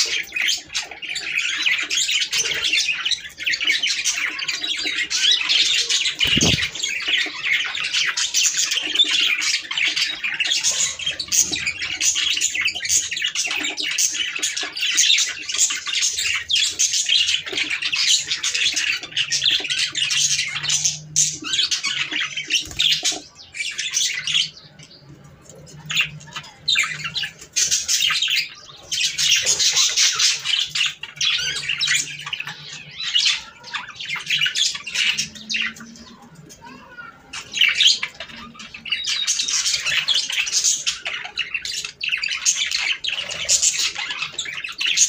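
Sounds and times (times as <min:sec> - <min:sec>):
budgerigars chattering: 0:00.0 - 0:45.0.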